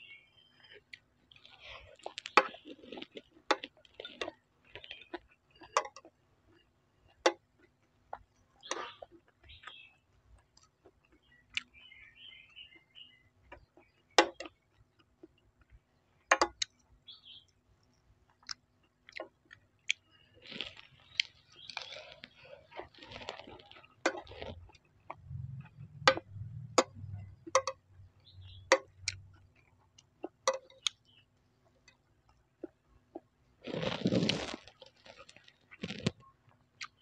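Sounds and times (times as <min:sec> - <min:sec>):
chewing crispy rice: 0:00.3 - 0:37.0.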